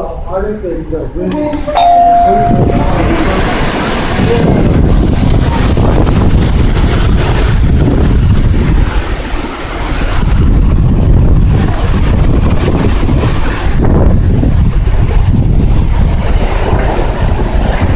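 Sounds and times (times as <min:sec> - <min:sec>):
storm wind gusting on microphone: 0:00.0 - 0:17.9.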